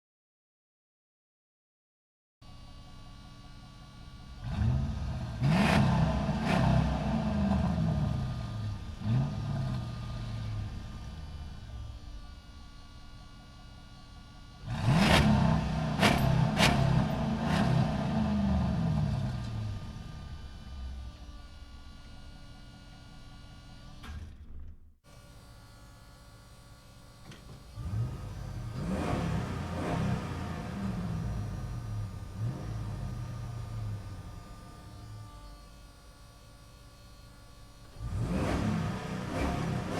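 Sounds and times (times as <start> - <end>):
motorcycle engine idling and revving: 2.4 - 24.1, 25.0 - 39.9.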